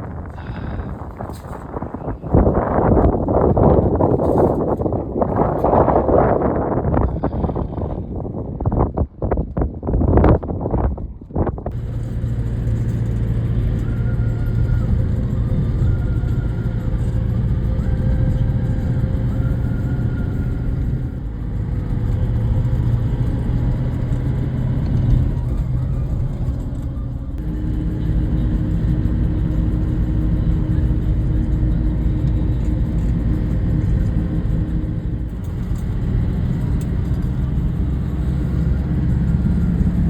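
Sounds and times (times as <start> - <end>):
vehicle engine and road rumble: 0.0 - 40.0.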